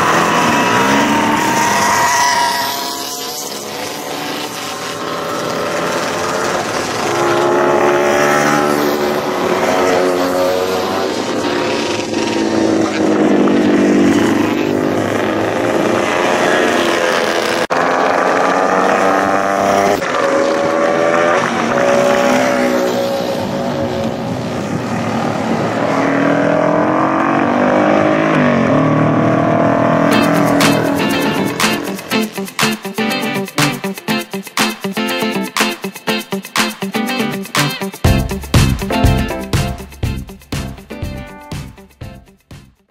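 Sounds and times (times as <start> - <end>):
racing motorcycles passing: 0.0 - 41.1.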